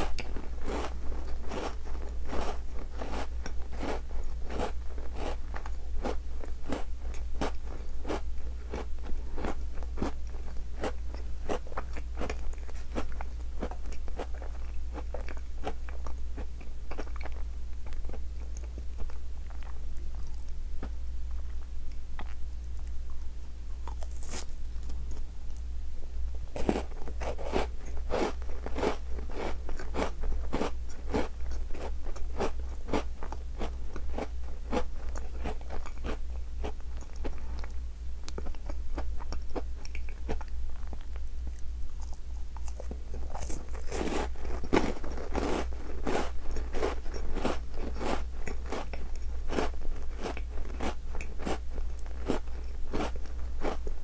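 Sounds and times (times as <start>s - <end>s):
biscuit crunching and chewing: 0.0s - 25.6s, 26.5s - 54.0s.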